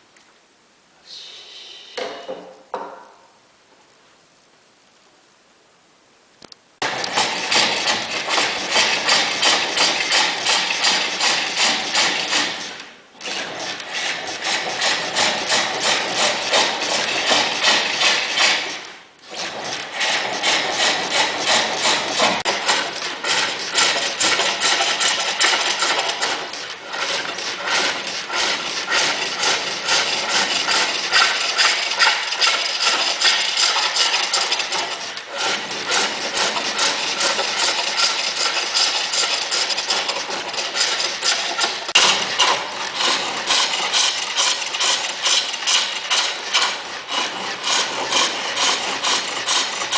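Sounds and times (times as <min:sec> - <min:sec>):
lathe tool scraping workpiece: 0:06.8 - 0:49.9.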